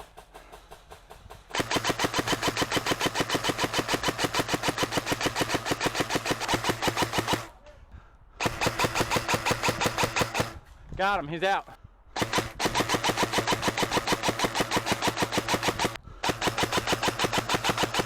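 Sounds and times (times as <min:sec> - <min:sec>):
airsoft gun full-auto bursts: 0:00.7 - 0:07.5, 0:08.4 - 0:10.6, 0:12.2 - 0:18.0.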